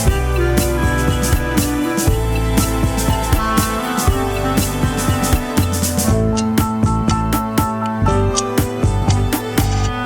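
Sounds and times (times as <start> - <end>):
music with drum beat: 0.0 - 10.0.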